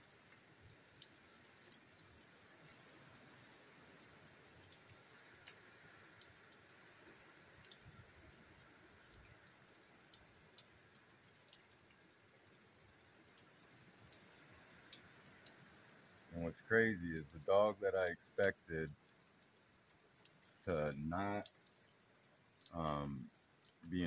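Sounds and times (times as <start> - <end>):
rain hissing: 0.0 - 24.0
water drips: 0.0 - 24.0.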